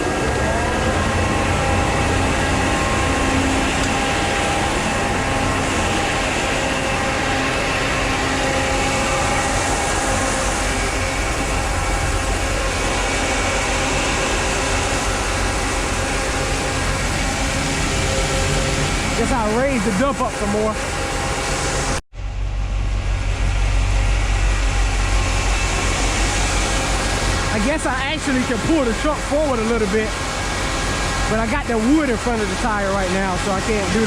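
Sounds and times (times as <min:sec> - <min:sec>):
fan whine: 0:00.0 - 0:34.0
grain dryer humming drone: 0:00.0 - 0:34.0
grain elevator running: 0:00.0 - 0:34.0.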